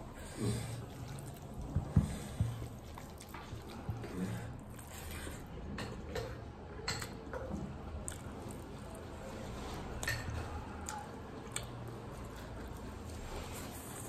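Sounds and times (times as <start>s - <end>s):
wet chewing and lip-smacking: 0.3s - 5.7s, 8.0s - 14.0s.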